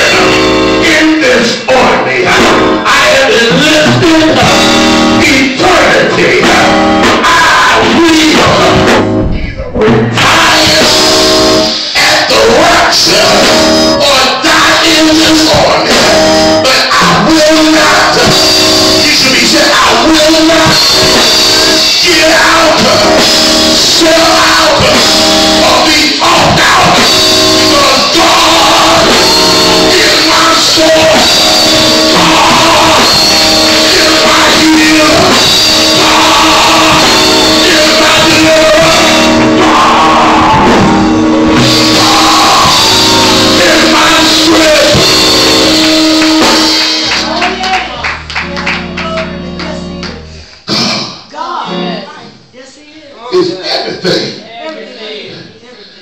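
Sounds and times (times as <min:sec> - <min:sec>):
man singing into a microphone: 0:00.0 - 0:45.9
band playing held chords: 0:00.0 - 0:52.5.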